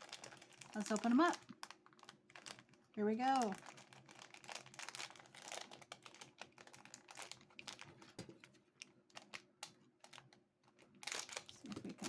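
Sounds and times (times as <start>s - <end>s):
toy packaging crinkling: 0.0s - 12.0s.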